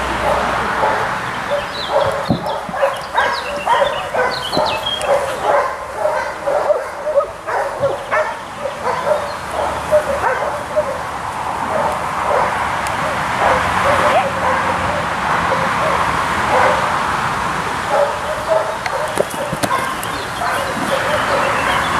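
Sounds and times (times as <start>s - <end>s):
dog barking: 0.2s - 17.0s, 17.9s - 21.9s.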